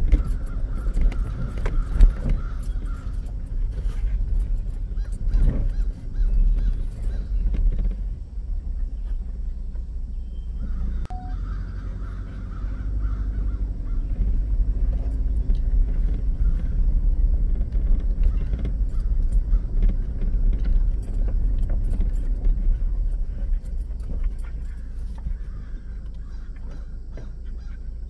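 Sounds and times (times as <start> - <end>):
pickup truck engine rumble: 0.0 - 28.0
rattles from bumpy ride: 0.0 - 28.0.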